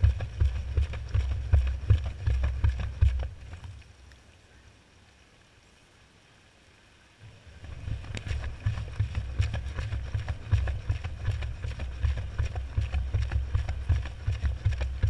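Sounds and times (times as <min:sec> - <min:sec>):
water sloshing: 0:00.0 - 0:04.4, 0:07.3 - 0:15.0.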